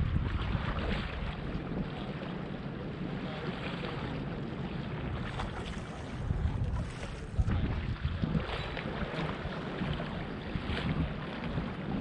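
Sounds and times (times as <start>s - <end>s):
water rippling against shore: 0.0s - 12.0s
wind buffeting microphone: 0.0s - 12.0s.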